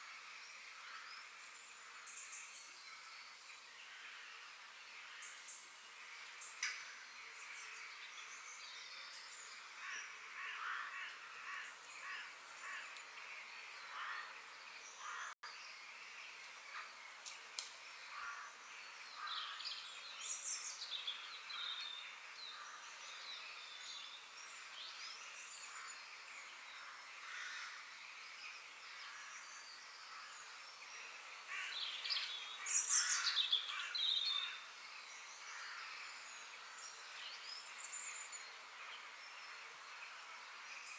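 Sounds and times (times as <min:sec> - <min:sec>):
steady background hiss: 0:00.0 - 0:40.9
wild birds chirping and calling: 0:00.0 - 0:40.9.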